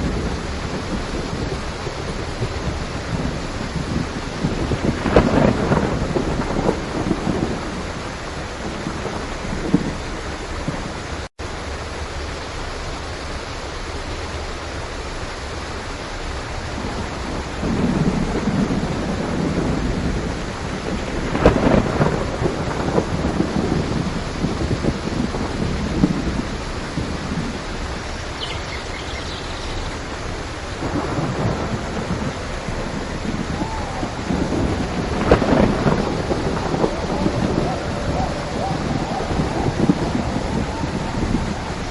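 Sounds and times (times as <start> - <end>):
rolling thunder: 0.0 - 11.3, 16.6 - 41.9
steady rain: 0.0 - 41.9.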